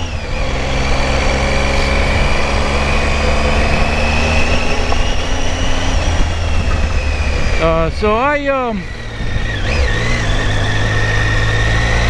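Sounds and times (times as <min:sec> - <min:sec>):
motorcycle engine cruising: 0:00.0 - 0:12.0
wind rumble on microphone: 0:00.0 - 0:12.0.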